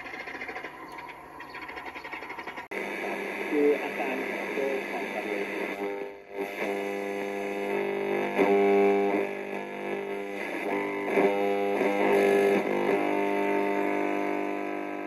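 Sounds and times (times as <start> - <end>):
guitar music on radio: 0.0 - 15.0.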